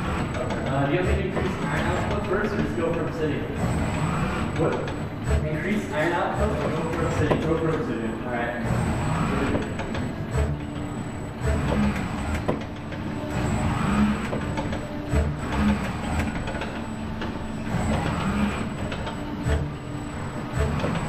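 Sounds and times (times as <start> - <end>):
robot arm servo motors whirring: 0.0 - 21.0.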